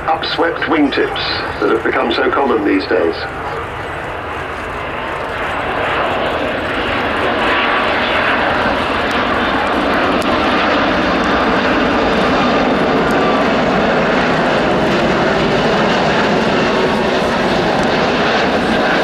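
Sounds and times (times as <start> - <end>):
jet airliner flying past: 0.0 - 19.0.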